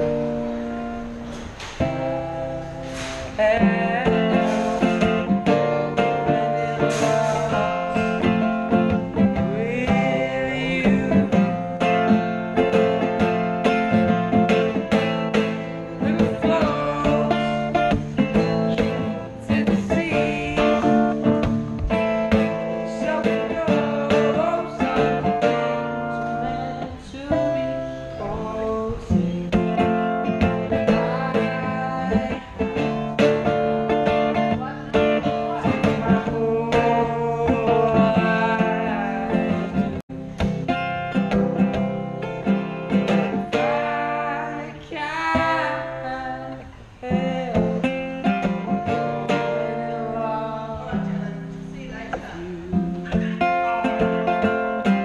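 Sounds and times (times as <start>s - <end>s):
acoustic guitar strummed and picked: 0.0s - 55.0s
man singing: 2.4s - 55.0s.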